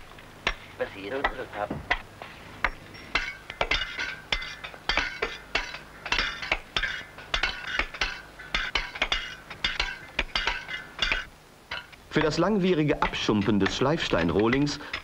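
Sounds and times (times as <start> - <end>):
hammers striking stone: 0.0 - 15.0.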